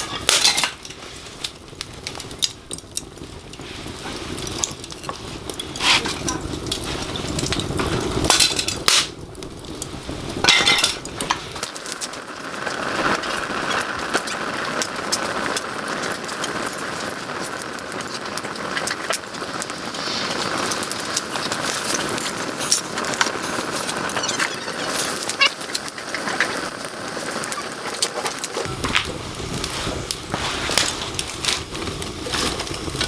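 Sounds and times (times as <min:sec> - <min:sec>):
small wood fire crackling: 0:00.0 - 0:33.0
steady hiss: 0:00.0 - 0:33.0.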